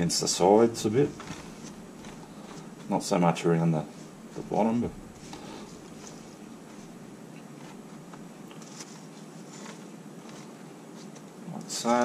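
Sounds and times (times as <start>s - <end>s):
soft rustling of rice pressed by hand: 0.0s - 12.0s
steady background hiss: 0.0s - 12.0s.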